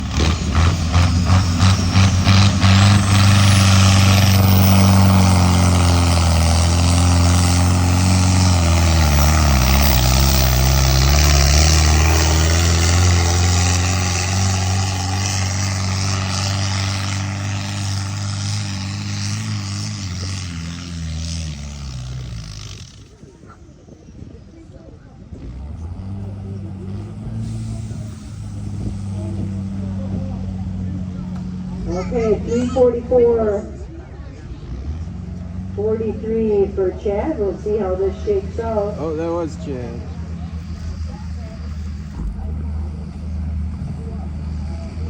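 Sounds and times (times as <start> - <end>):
tractor engine at full throttle: 0.0 - 45.0.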